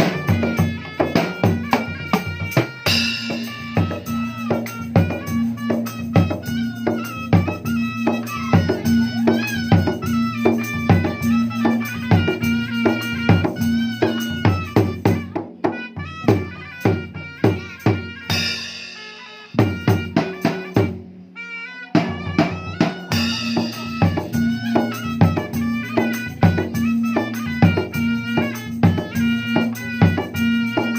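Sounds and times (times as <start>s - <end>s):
dangdut music: 0.0s - 30.9s
hand drum rhythm: 0.0s - 30.9s.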